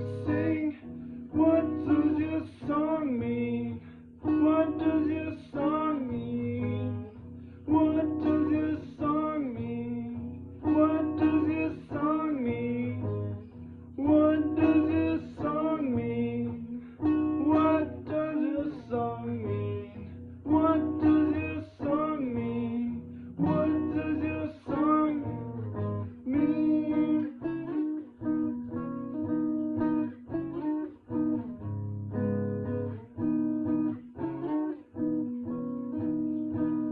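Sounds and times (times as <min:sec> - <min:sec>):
acoustic guitar chords: 0:00.0 - 0:36.9.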